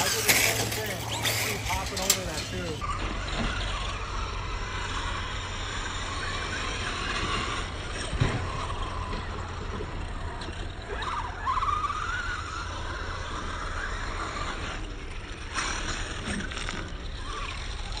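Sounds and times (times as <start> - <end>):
electric toy car motor whining: 0.0 - 18.0.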